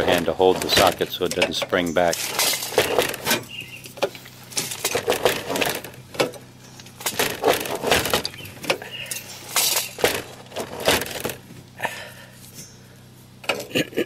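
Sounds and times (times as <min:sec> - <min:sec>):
gravel crunching: 0:00.0 - 0:14.0.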